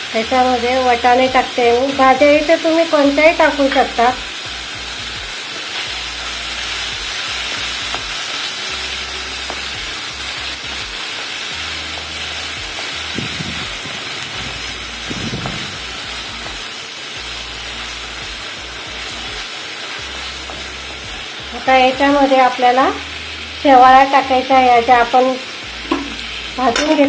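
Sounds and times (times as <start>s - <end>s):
vegetables sizzling in a pan: 0.0s - 27.0s.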